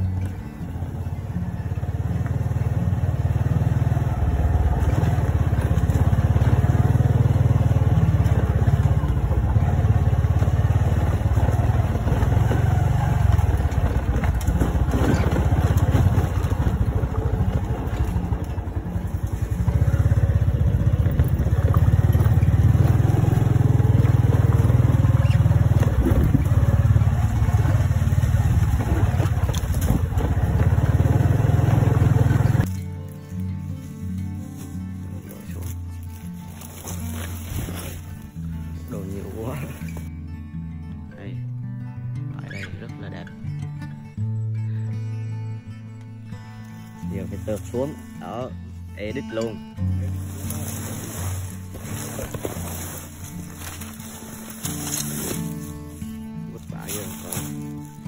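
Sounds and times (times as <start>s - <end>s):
motorbike engine rumble: 0.0s - 40.1s, 45.9s - 58.0s.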